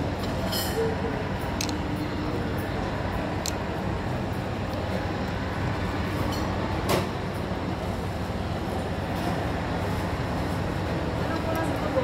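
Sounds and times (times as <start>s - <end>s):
shopping mall din: 0.0s - 12.0s.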